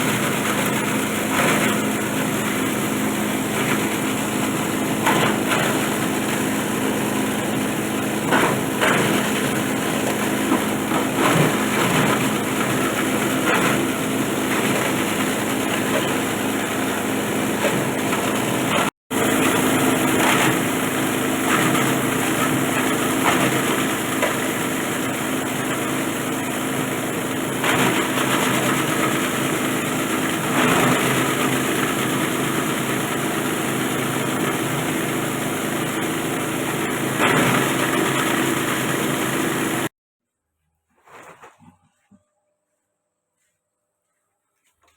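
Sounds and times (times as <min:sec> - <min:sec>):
bottle crusher machine running: 0:00.0 - 0:39.9.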